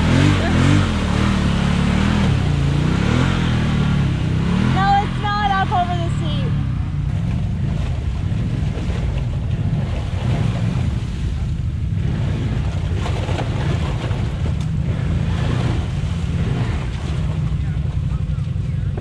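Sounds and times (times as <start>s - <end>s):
atv engine under load: 0.0s - 19.0s
tyres churning mud and water: 0.0s - 19.0s.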